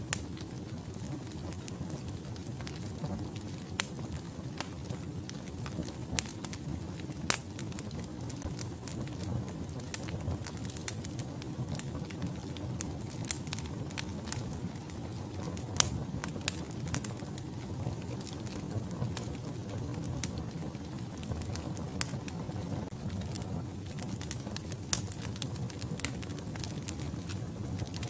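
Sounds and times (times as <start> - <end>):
fire flames rumbling: 0.0 - 28.0
logs crackling and popping: 0.0 - 28.0.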